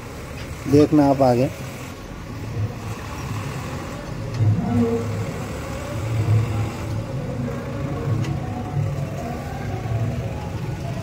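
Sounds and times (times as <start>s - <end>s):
tractor diesel engines straining: 0.0s - 11.0s.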